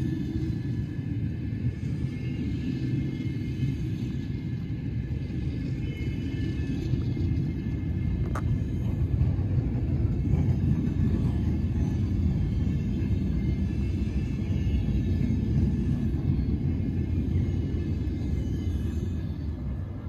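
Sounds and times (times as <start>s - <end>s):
train rolling rumble: 0.0s - 20.0s.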